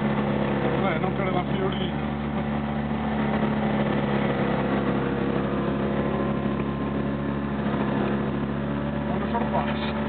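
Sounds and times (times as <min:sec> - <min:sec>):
car engine running from inside: 0:00.0 - 0:10.0.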